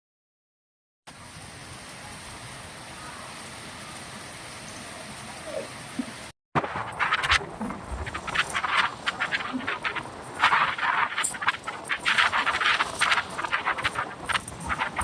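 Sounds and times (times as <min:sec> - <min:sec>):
rushing water: 0:01.1 - 0:15.0.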